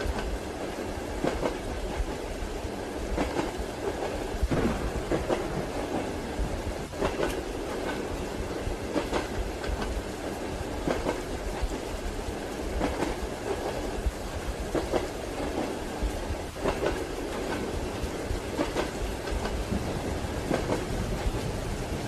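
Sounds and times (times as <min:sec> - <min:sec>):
train wheels clacking: 0:00.0 - 0:02.4, 0:03.0 - 0:22.0
railway carriage rumble: 0:00.0 - 0:22.0.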